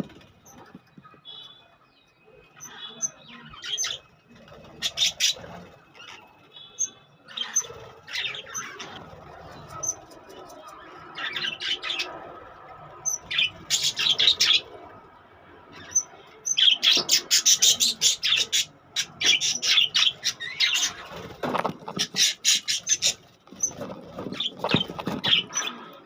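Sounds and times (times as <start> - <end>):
budgerigars chirping and squawking: 2.6 - 14.9, 15.7 - 26.0.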